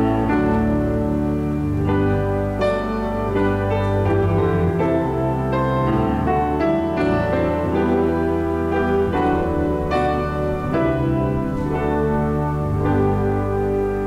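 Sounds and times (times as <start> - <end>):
instrumental keyboard music: 0.0 - 14.0.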